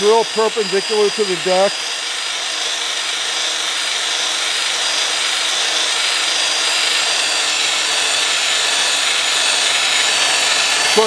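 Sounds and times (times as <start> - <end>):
grinding rasp of hone stones: 0.0 - 11.0
high whine of electric drill: 0.0 - 11.0.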